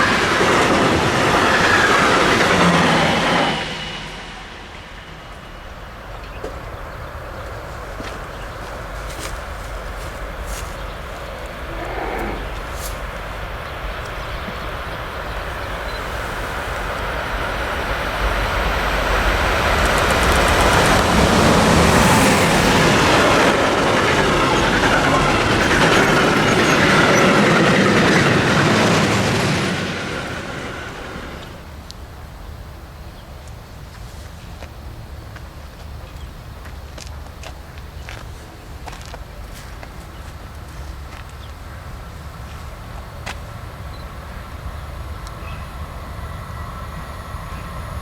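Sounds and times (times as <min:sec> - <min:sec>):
train wheel and rail noise: 0:00.0 - 0:48.0.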